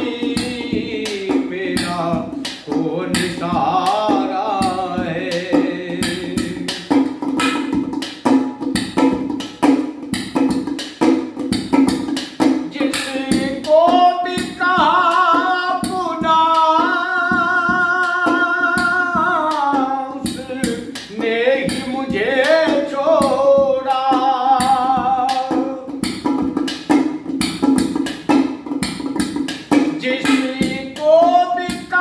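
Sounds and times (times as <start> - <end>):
steady drum beats: 0.0 - 32.0.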